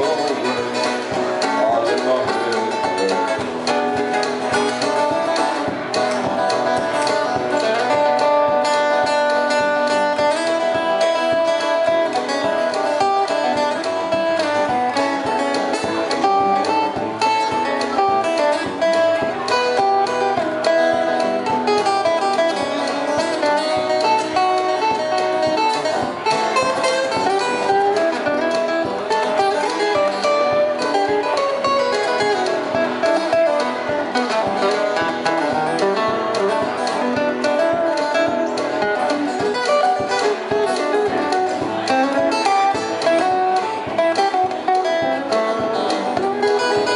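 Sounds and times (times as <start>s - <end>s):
acoustic guitars playing country: 0.0s - 46.9s.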